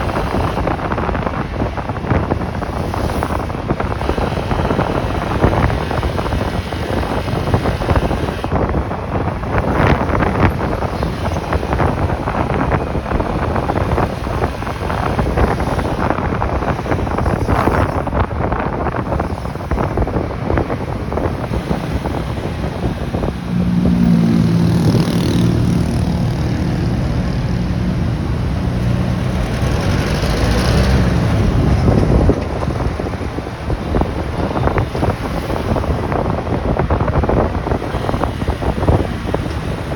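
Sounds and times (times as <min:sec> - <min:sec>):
motorcycle road and engine noise: 0:00.0 - 0:39.9
wind buffeting microphone: 0:00.0 - 0:39.9.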